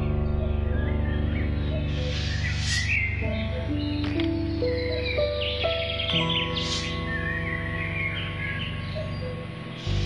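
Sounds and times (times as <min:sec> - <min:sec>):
film score melody over drone: 0:00.0 - 0:10.0.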